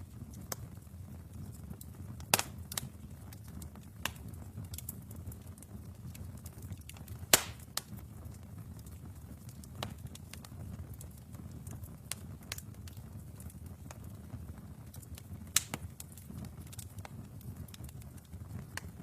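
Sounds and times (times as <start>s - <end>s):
fire crackles and pops: 0.0s - 19.0s
wood fire flames rumbling: 0.0s - 19.0s.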